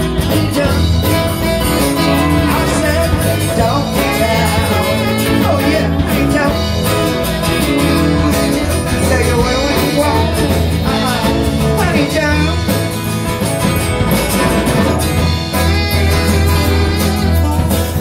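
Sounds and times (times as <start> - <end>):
person singing: 0.0 - 13.4, 14.0 - 18.0
acoustic guitars strummed: 0.0 - 18.0.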